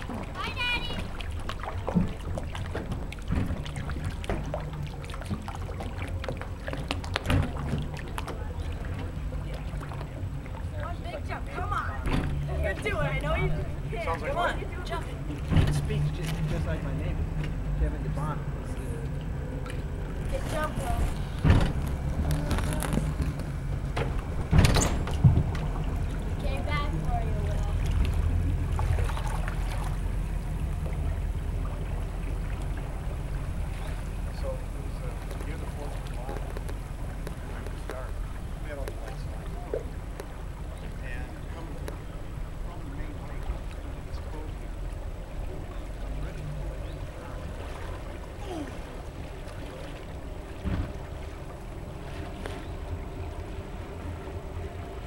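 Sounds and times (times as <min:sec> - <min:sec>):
light water sounds: 0:00.0 - 0:55.0
motorboat engine idling: 0:00.0 - 0:55.0.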